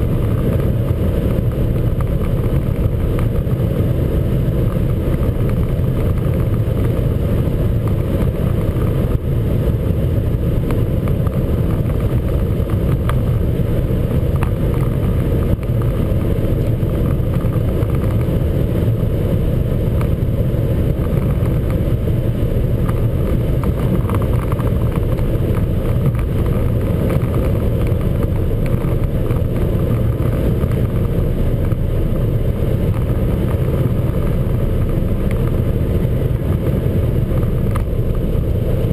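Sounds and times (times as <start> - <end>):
car engine at high revs: 0.0 - 38.9
road and wind noise: 0.0 - 38.9.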